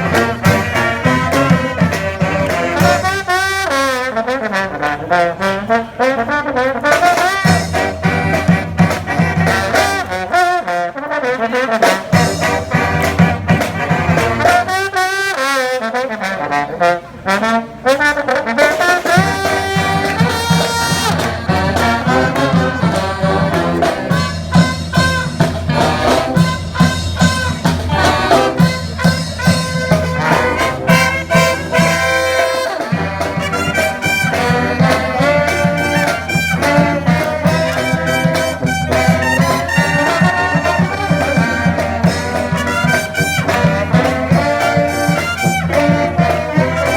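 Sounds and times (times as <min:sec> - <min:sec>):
trumpets and trombones: 0:00.0 - 0:46.9.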